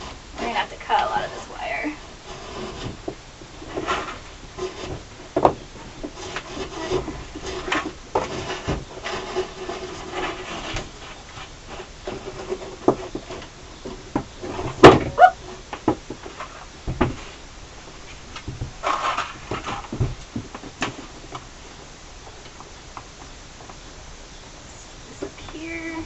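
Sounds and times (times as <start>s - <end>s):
hands rubbing and scraping wood: 0.0s - 23.8s.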